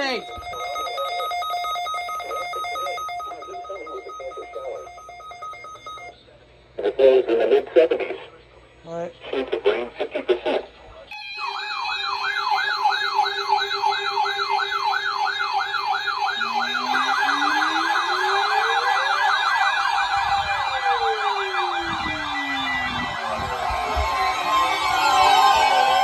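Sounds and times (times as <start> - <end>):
electronic siren yelping: 0.0 - 6.1, 11.1 - 26.0.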